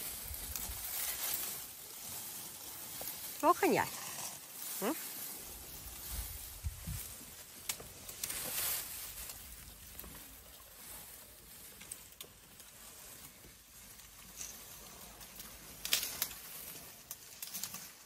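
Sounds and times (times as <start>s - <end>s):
elephant chewing dry grass: 0.0s - 18.0s.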